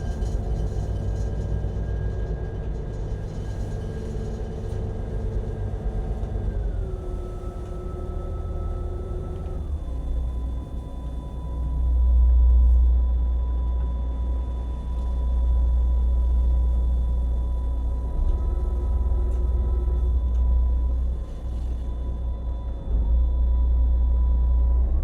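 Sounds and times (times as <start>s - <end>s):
boat engine rumble: 0.0s - 25.0s
steady high whine: 0.0s - 25.0s.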